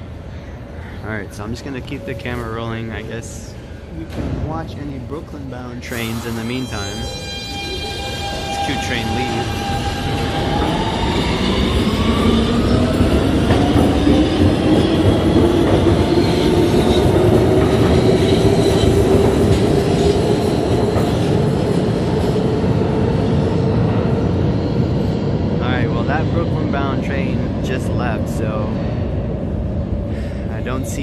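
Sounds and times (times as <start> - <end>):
train propulsion whine: 0.0 - 31.0.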